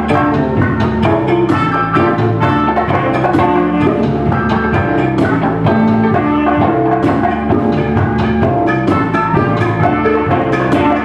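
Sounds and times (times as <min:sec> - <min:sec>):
drum kit beat: 0:00.0 - 0:11.0
electric guitar: 0:00.0 - 0:11.0
saxophone: 0:00.0 - 0:11.0
trumpet: 0:00.0 - 0:11.0.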